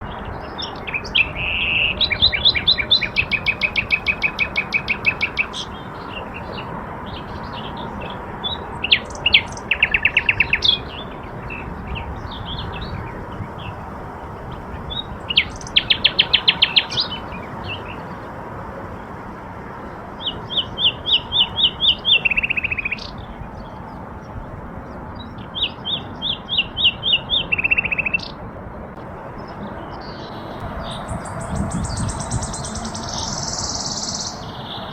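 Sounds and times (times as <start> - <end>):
songbird trilling: 0.0 - 13.8, 14.7 - 18.2, 20.2 - 24.4, 25.2 - 28.4, 29.3 - 34.9.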